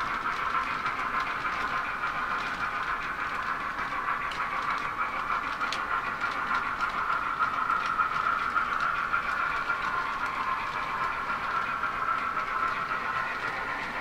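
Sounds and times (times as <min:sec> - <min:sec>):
clicks at rail joints: 0:00.0 - 0:14.0
model train wheels whirring: 0:00.0 - 0:14.0.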